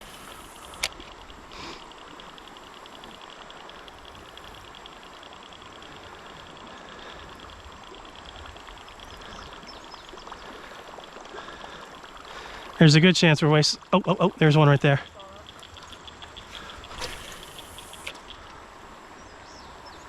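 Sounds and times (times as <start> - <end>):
rapid high-pitched ticking: 0.0 - 18.5
flowing water hiss: 0.0 - 20.0.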